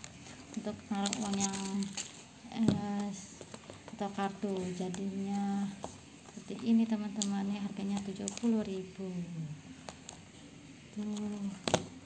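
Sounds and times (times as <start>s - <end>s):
woman's voice: 0.6s - 9.7s, 10.9s - 11.7s.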